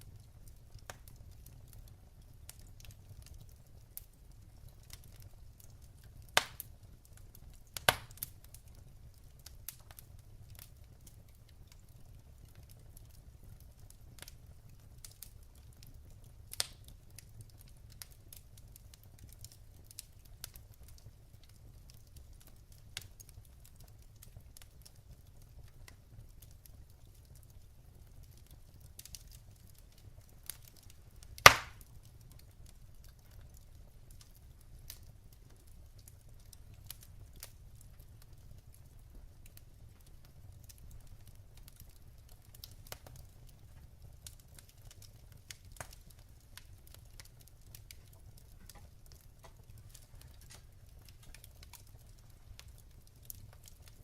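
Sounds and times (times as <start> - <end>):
burning logs popping: 0.0 - 54.0
wood fire crackling: 0.0 - 54.0.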